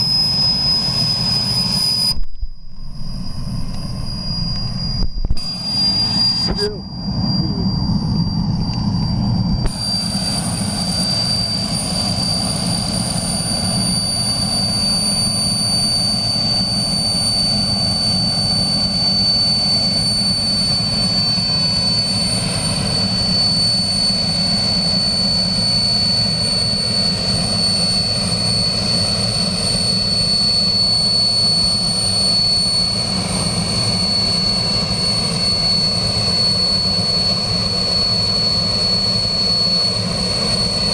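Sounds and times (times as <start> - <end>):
helicopter engine and rotor: 0.0 - 40.9
high whine: 0.0 - 40.9.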